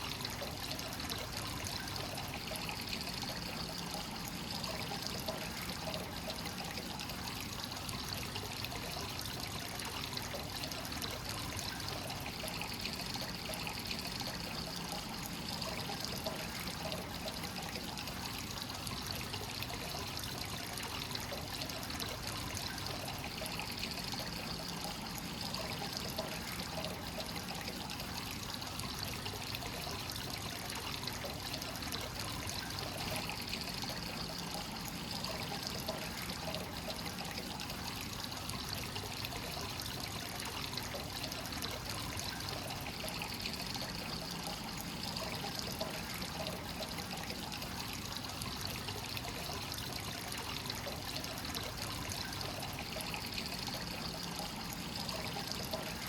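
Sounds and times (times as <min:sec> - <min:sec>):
water pouring into a bath: 0:00.0 - 0:56.0.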